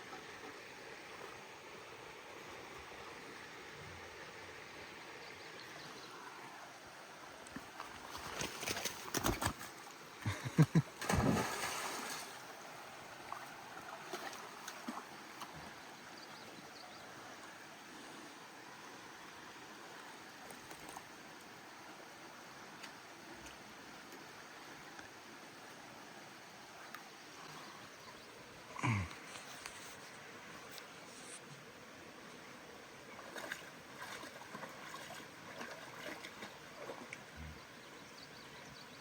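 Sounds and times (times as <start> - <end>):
brook flowing: 0.0 - 39.0.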